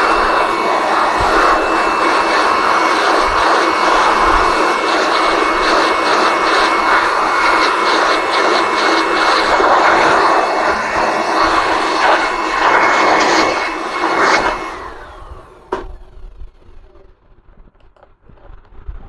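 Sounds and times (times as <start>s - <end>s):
electric air blower running: 0.0s - 17.3s.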